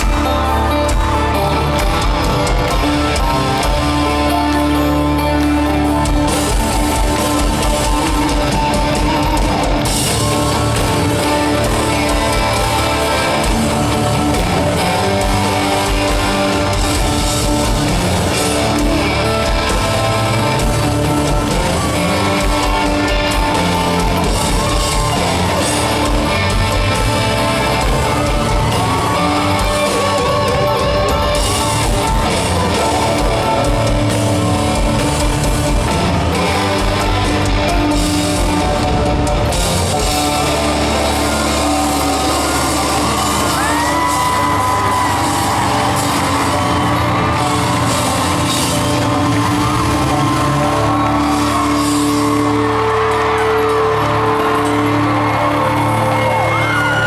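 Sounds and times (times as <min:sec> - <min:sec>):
electric guitars: 0:00.0 - 0:57.0
steady drum beat: 0:05.7 - 0:57.0.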